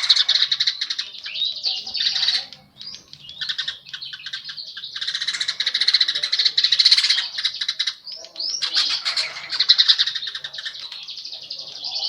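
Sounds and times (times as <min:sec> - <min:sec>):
bird singing chattering trills: 0:00.0 - 0:12.0
sparrow chirping: 0:00.0 - 0:12.0.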